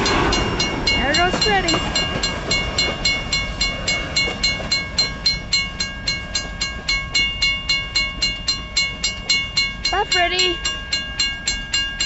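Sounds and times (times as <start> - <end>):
crossing bell ringing: 0.0 - 12.0
freight train rumbling past: 0.0 - 12.0.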